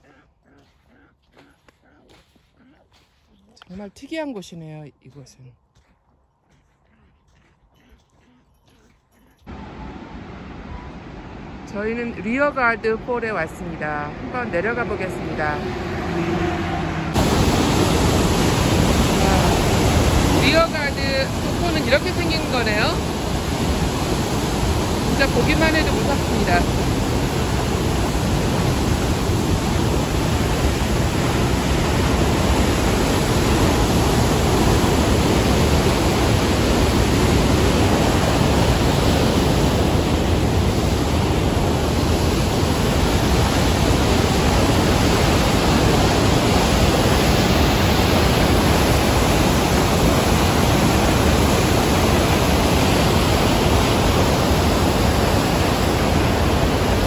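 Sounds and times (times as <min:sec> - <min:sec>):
waterfall rushing: 0:09.5 - 0:13.8, 0:14.6 - 0:57.0.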